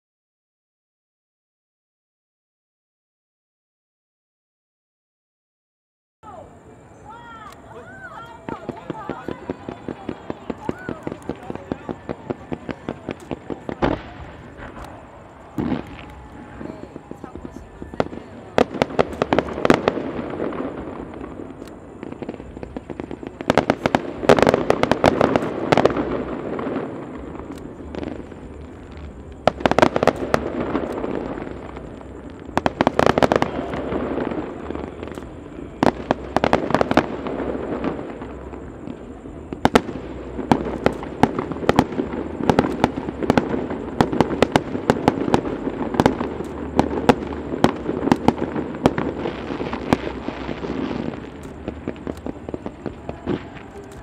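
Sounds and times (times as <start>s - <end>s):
fireworks bangs and crackles: 6.3s - 54.0s.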